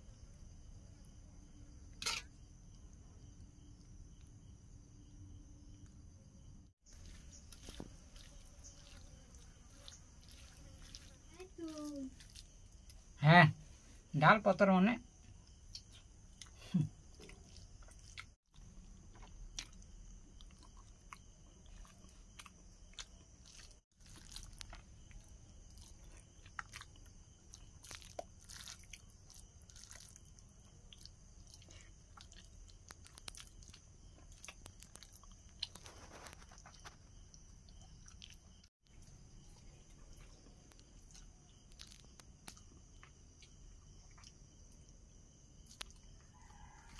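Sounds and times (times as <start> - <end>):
man chewing food: 6.9 - 13.2, 15.2 - 46.9.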